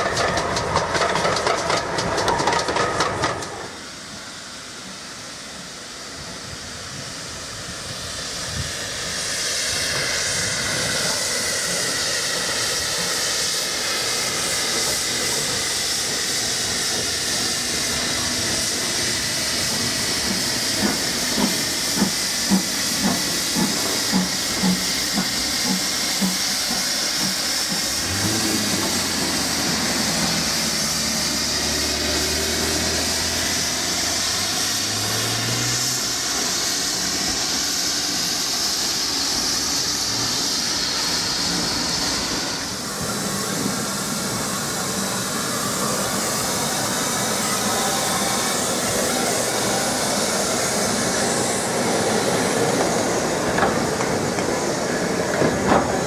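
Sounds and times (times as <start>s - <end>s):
steam hissing from locomotive: 0.0s - 56.0s
steam locomotive exhaust beats: 0.0s - 56.0s
train rumbling past: 0.0s - 56.0s.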